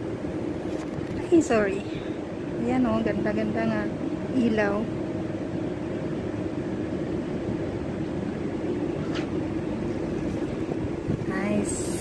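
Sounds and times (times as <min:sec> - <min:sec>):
urban rumble with hum: 0:00.0 - 0:12.0.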